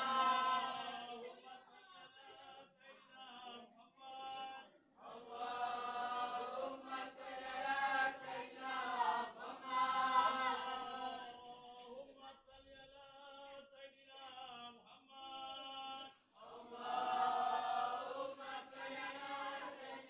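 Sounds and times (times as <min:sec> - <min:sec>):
group chanting in unison: 0:00.0 - 0:01.6, 0:02.2 - 0:12.4, 0:13.4 - 0:20.0.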